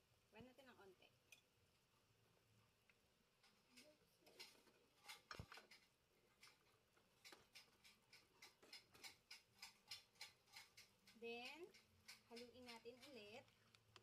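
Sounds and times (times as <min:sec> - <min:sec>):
broth boiling with popping bubbles: 0:02.8 - 0:14.0.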